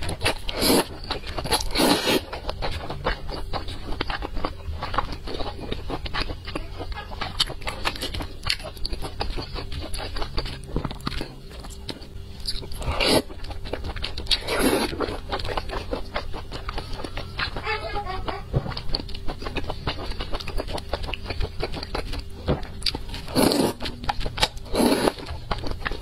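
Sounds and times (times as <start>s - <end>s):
person chewing soft food: 0.0s - 26.0s.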